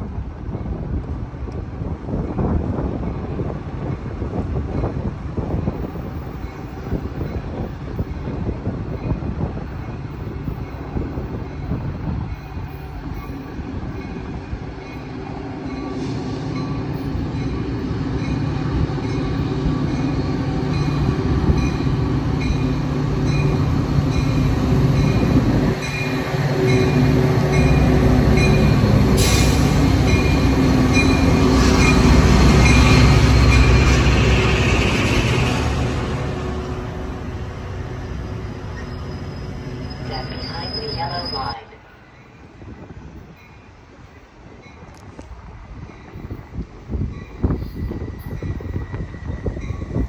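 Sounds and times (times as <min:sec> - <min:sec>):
diesel locomotive rumble: 0:00.0 - 0:50.0.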